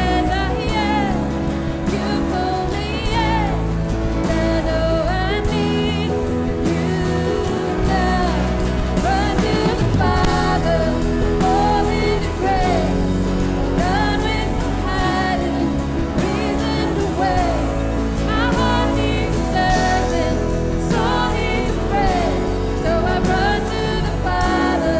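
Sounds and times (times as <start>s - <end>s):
person singing: 0.0s - 24.9s
worship band music: 0.0s - 24.9s.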